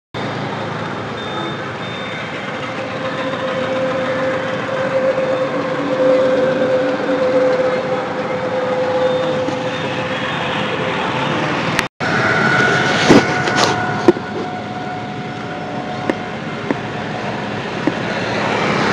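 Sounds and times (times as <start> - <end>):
traffic noise: 0.2 - 18.9.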